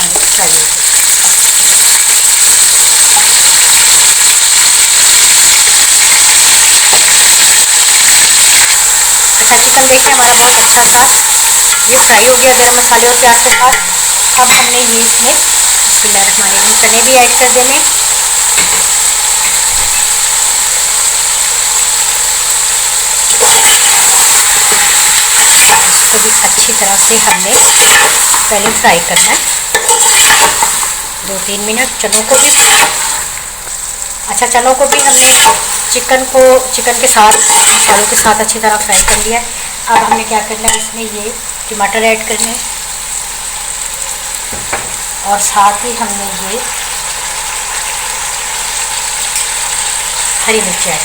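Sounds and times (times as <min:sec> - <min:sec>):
chicken sizzling in hot oil: 0:00.0 - 0:51.0.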